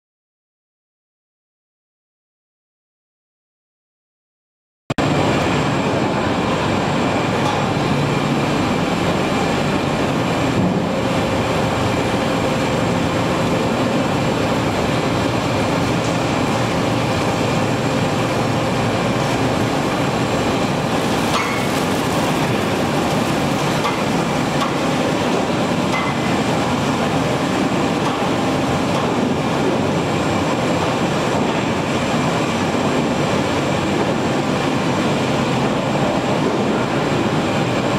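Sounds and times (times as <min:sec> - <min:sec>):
industrial machinery running: 0:05.0 - 0:37.9.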